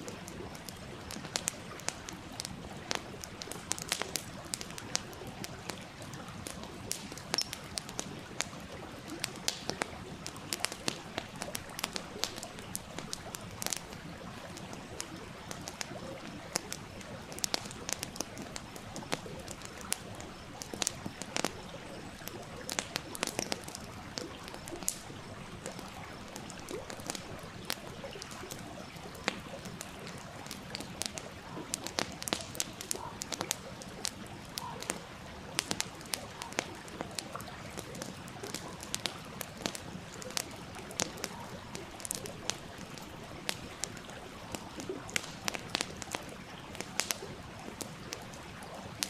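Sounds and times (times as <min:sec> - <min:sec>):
campfire crackling and popping: 0:00.0 - 0:49.0
small stream rushing: 0:00.0 - 0:49.0.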